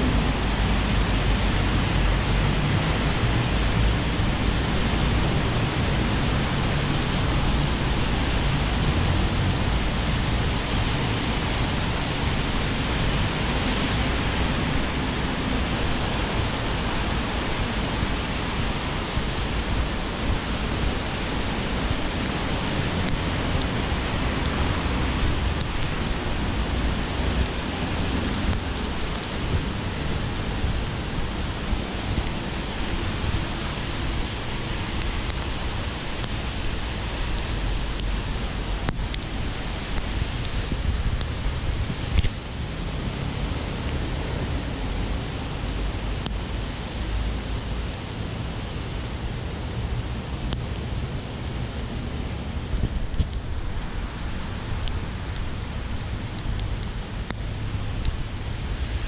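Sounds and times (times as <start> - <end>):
rain hiss: 0.0 - 59.0
tyres on a wet road: 0.0 - 59.0.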